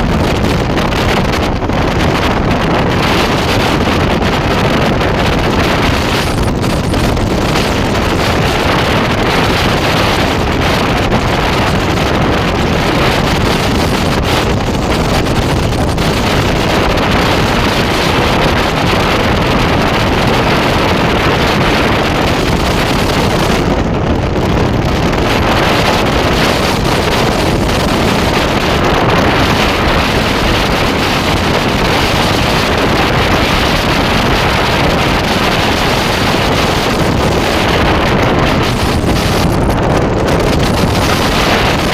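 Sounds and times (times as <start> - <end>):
moving train: 0.0 - 41.9
wind blowing over microphone: 0.0 - 41.9.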